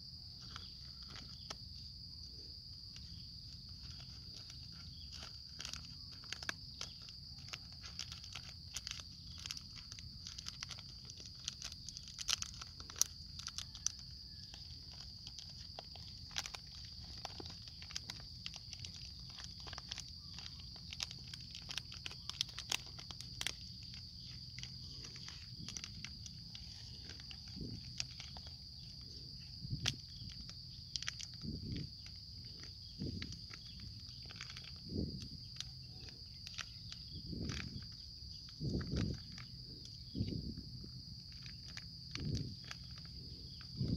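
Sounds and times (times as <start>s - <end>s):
plastic crinkling and clicking: 0.4s - 1.6s, 2.4s - 43.9s.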